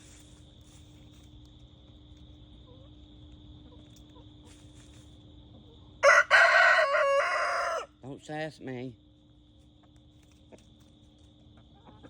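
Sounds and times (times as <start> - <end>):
faint cricket chorus: 0.0 - 12.0.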